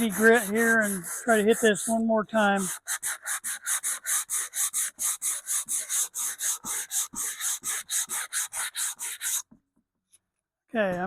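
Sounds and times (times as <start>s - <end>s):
sandpaper rubbing on wood: 0.0s - 9.4s.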